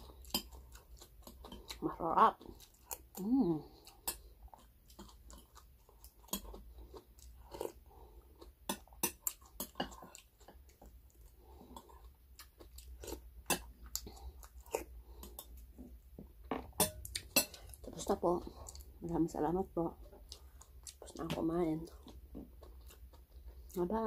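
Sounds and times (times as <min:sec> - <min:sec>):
chewing: 0:00.0 - 0:16.2, 0:16.8 - 0:19.1, 0:19.9 - 0:23.8.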